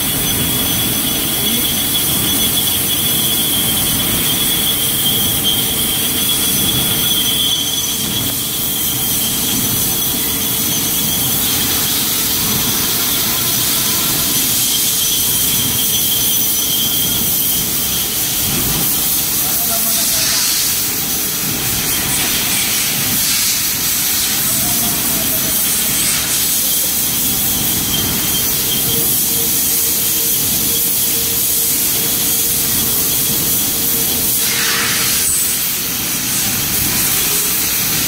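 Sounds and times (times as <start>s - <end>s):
metal lathe machining: 0.0s - 38.0s.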